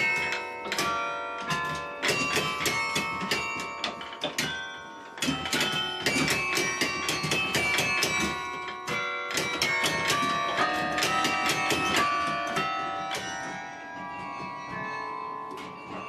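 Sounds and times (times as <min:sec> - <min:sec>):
carillon bells playing a tune: 0:00.0 - 0:16.0.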